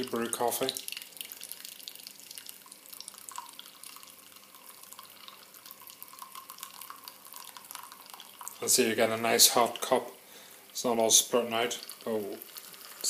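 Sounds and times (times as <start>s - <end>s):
coffee dripping into a mug: 0.0s - 10.0s, 10.7s - 13.0s.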